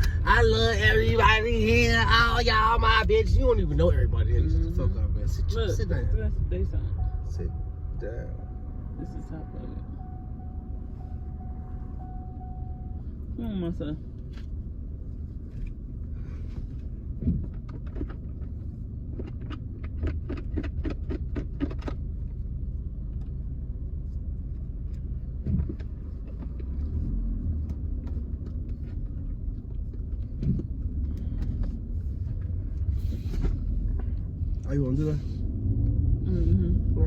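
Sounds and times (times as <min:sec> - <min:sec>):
low road rumble inside car: 0:00.0 - 0:37.0.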